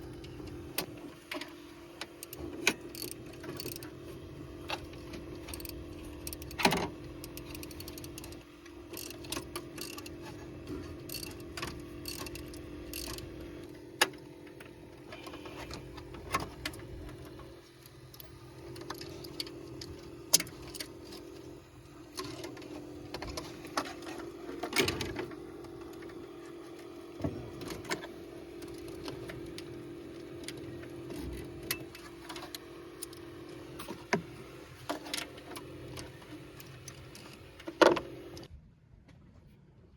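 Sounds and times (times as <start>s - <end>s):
steady low hum: 0.0s - 38.5s.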